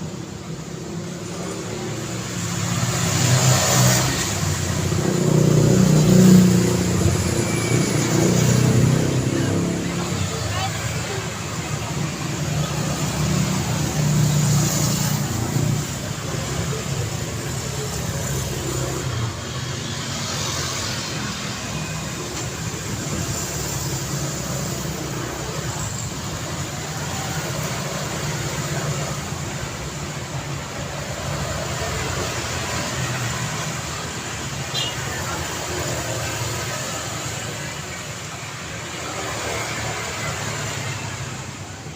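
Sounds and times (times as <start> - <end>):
vehicle engines and tyres: 0.0 - 41.9.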